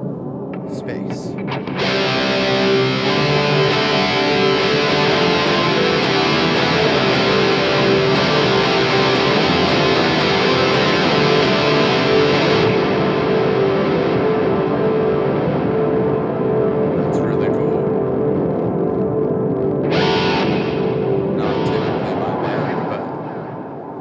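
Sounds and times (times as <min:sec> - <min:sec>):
overdriven electric guitar with delay: 0:00.6 - 0:24.0.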